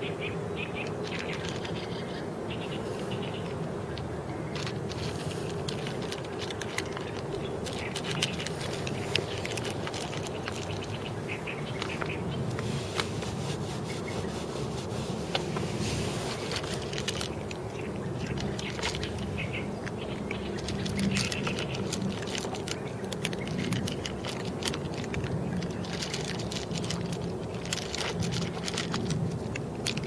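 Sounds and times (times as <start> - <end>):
kittens chewing clicks: 0.8 - 13.2, 16.3 - 30.0.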